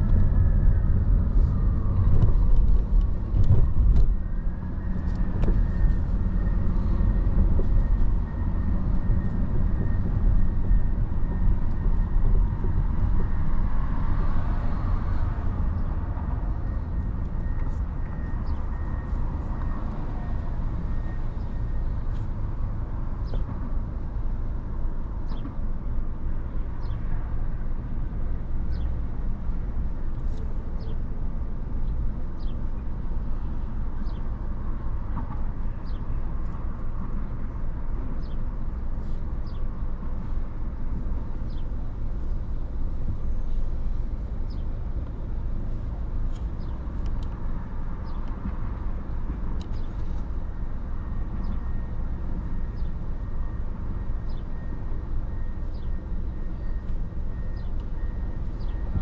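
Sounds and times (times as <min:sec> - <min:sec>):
city traffic rumble: 0:00.0 - 0:59.0.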